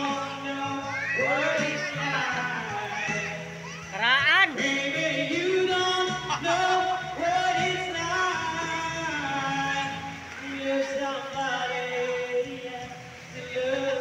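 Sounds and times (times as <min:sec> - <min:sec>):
song with sliding vocals: 0:00.0 - 0:14.0.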